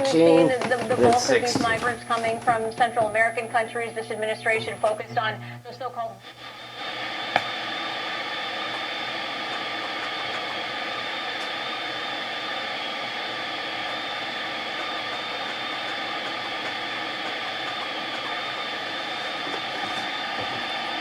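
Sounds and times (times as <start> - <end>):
faint steady whistles: 0.0 - 21.0
radio static hiss: 0.0 - 21.0.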